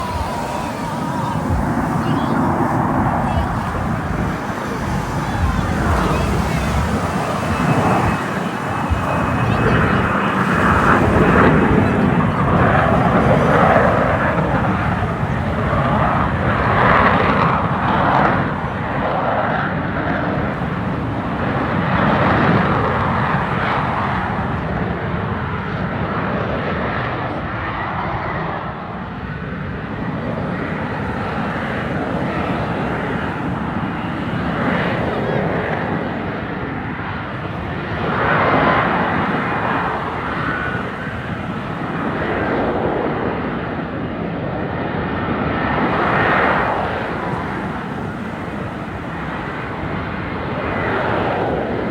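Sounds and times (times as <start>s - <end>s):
fighter jet engine roar: 0.0s - 51.9s.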